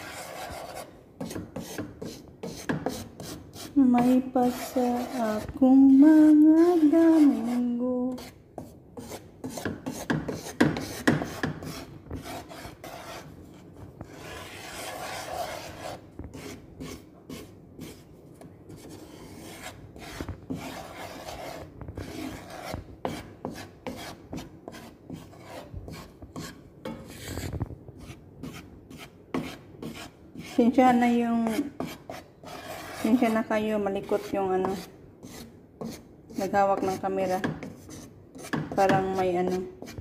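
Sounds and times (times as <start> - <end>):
wooden spatula scraping metal pan: 0.0 - 18.1, 18.7 - 40.0.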